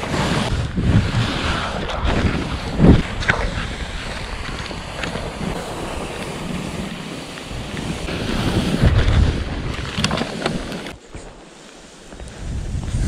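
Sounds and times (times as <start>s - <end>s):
wind buffeting microphone: 0.0s - 11.2s, 12.1s - 13.0s
skis sliding through snow: 0.0s - 13.0s.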